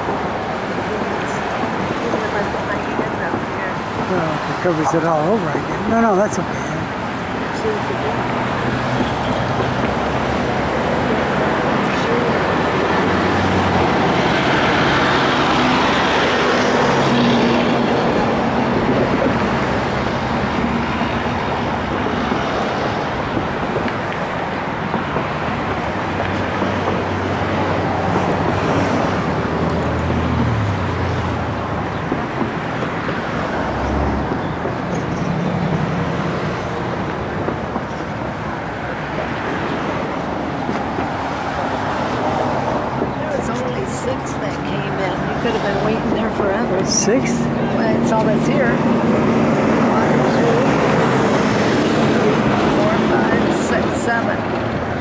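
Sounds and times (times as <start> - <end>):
motor engines humming: 0.0 - 55.0
outdoor noise: 0.0 - 55.0.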